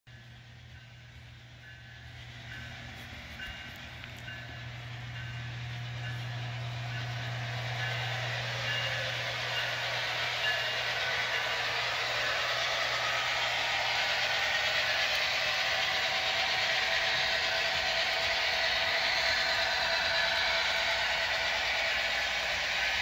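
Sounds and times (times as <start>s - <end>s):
low hum: 0.1s - 19.7s
model train wheels rumbling on rails: 0.1s - 23.0s.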